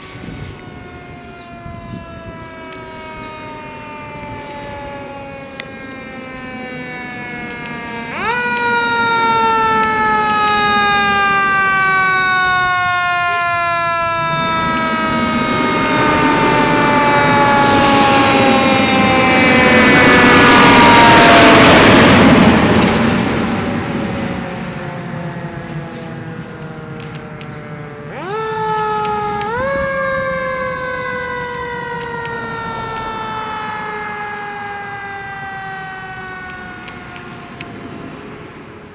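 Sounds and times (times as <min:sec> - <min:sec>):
engine and road noise: 0:00.0 - 0:38.9
fire engine siren: 0:00.0 - 0:38.9.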